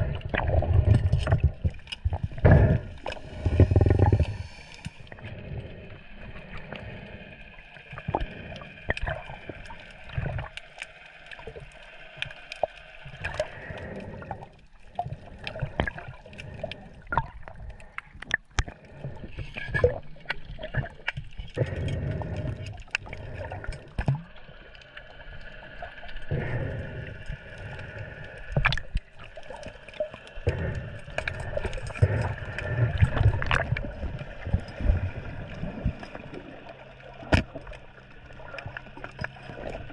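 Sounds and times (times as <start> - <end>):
sea water sloshing: 0.0 - 39.9.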